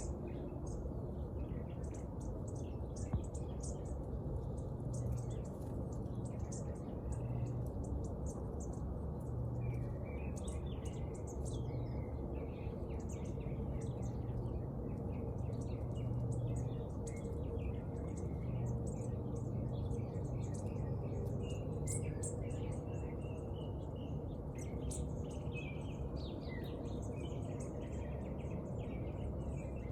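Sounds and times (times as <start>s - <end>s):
small birds chirping: 0.0s - 29.9s
steady low rumble: 0.0s - 29.9s.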